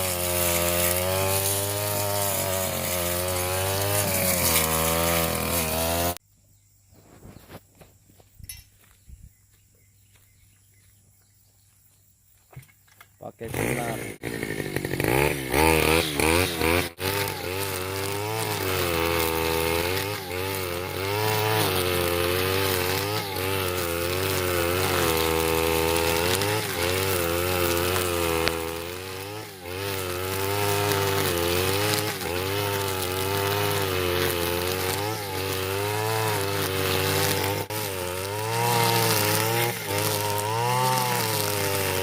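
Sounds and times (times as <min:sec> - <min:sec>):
brush cutter engine cutting grass: 0:00.0 - 0:06.2, 0:12.9 - 0:42.0.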